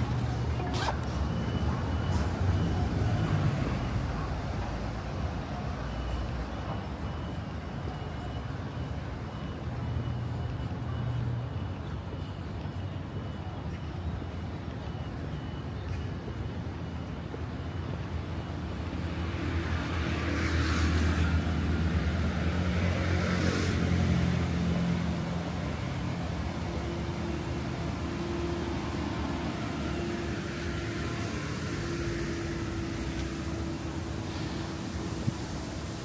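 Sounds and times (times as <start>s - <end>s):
low traffic hum: 0.0s - 36.0s.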